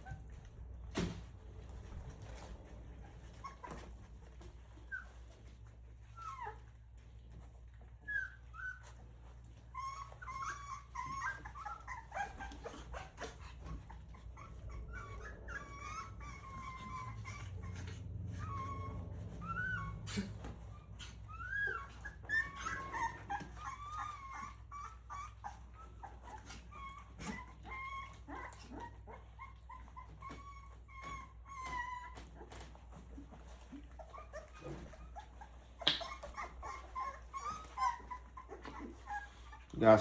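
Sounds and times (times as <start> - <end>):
puppies whimpering: 0.0 - 40.0.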